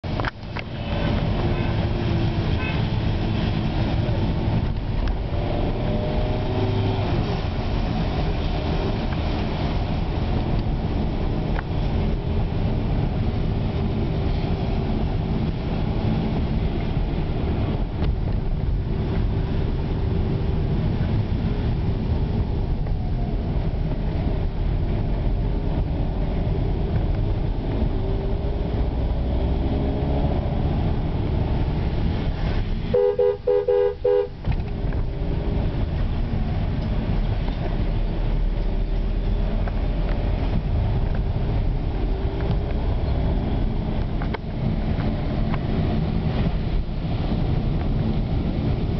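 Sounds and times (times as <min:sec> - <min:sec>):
car engine rumble: 0:00.0 - 0:48.9
tyres on wet road: 0:00.0 - 0:48.9.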